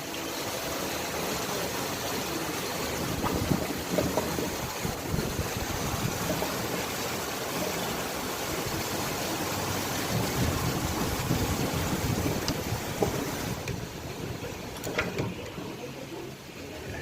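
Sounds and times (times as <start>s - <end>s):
sink drain gurgling: 0.0s - 16.0s.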